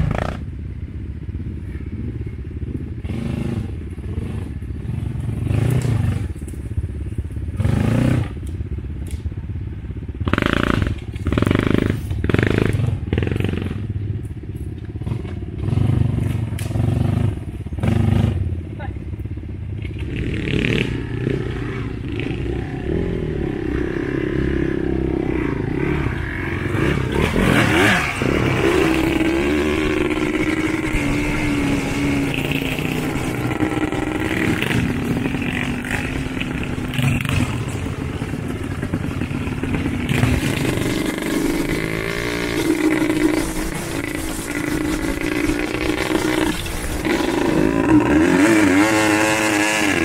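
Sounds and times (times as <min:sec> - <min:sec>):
quad bike engines revving: 0:00.0 - 0:50.0.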